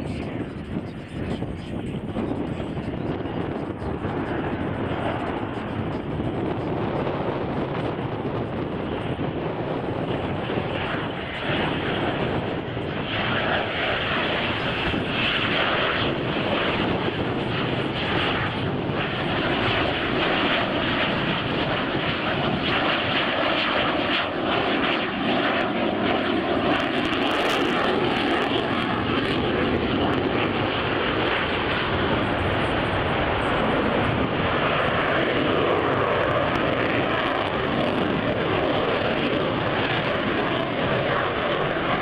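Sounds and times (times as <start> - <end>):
aircraft engine noise: 0.0 - 42.0.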